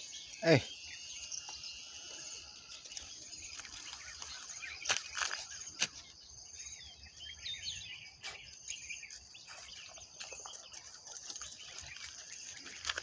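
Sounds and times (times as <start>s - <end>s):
birds chirping: 0.0s - 13.0s
footsteps on dirt path: 1.2s - 13.0s.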